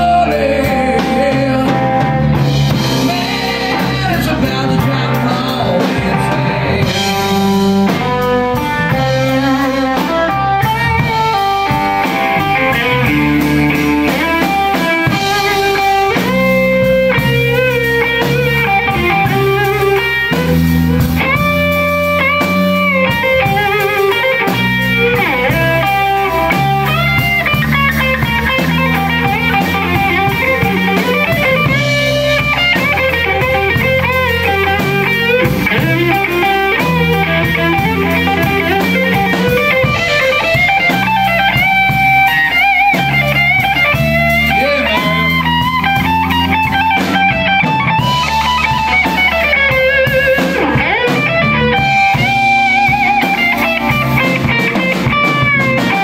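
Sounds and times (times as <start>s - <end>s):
drums and bass: 0.0s - 56.0s
electric guitar solo: 0.0s - 56.0s.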